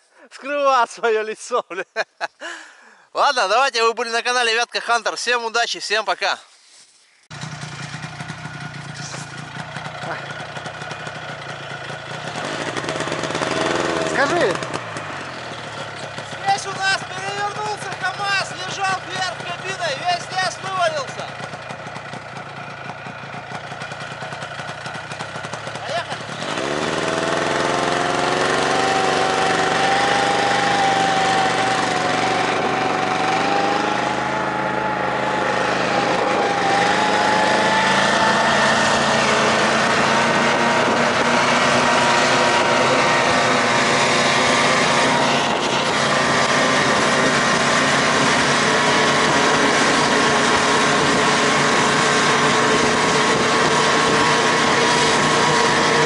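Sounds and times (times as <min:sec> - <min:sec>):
snowmobile engine revving: 0:07.3 - 0:56.0.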